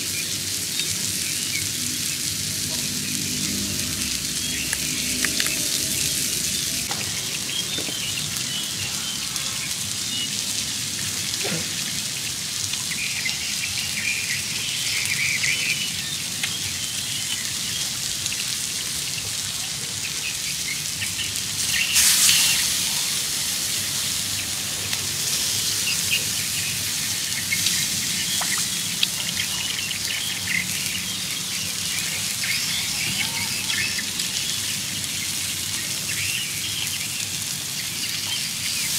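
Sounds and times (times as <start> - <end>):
birds chirping: 0.0 - 11.4, 12.0 - 38.9
meat sizzling on hot stone: 0.0 - 38.9.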